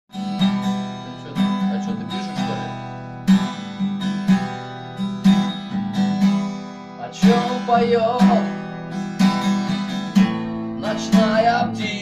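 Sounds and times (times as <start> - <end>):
acoustic guitar chords strummed: 0.1 - 12.0.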